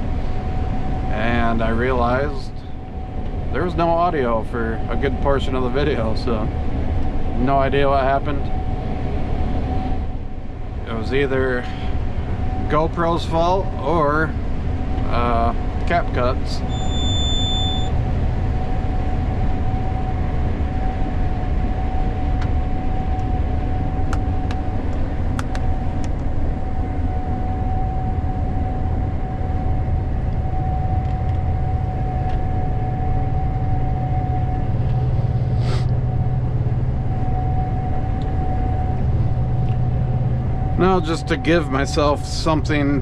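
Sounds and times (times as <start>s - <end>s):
combine harvester rumbling: 0.0s - 43.0s
steady tone: 0.0s - 43.0s.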